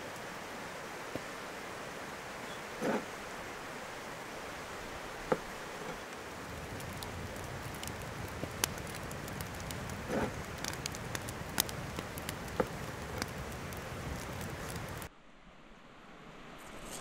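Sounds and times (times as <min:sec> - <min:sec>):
wood fire crackling: 0:00.0 - 0:15.1.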